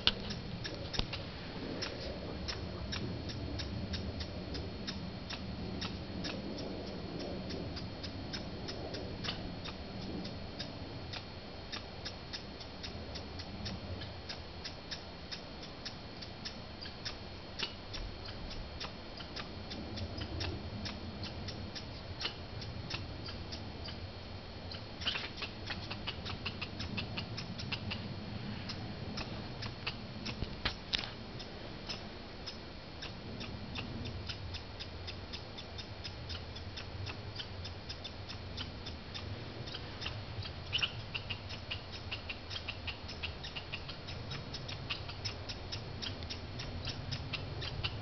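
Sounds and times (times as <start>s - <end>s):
squirrels giving clicking calls: 0.0s - 24.1s, 24.7s - 48.0s.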